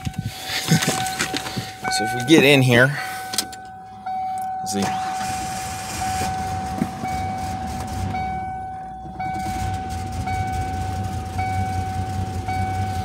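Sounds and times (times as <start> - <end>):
car engine idling: 0.0 - 13.0
intermittent warning tone: 0.0 - 13.0.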